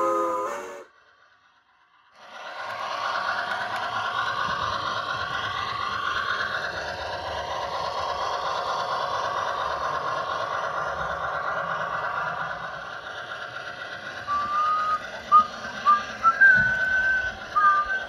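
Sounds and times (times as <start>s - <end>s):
model train running on track: 0.0s - 18.0s.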